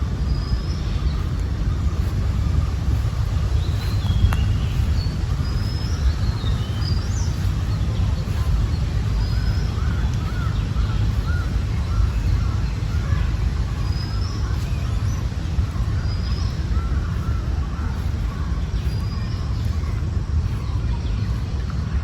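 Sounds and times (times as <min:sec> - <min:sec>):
steady low rumble: 0:00.0 - 0:22.0
birds whistling: 0:00.2 - 0:21.5.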